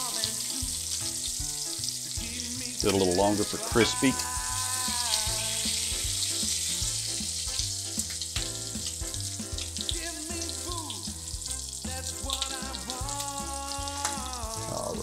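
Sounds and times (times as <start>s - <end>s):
background music: 0.0s - 15.0s
bacon sizzling in a skillet: 0.0s - 15.0s.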